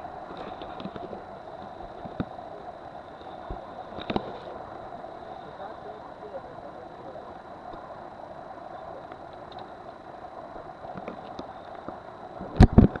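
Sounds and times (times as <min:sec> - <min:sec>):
boat engine running: 0:00.0 - 0:13.0
water rushing along hull: 0:00.0 - 0:13.0.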